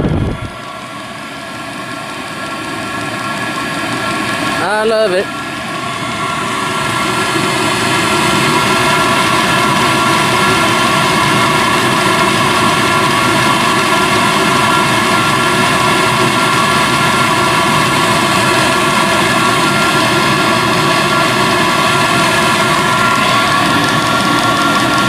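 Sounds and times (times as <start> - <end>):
heater blower fan whining: 0.0 - 25.0.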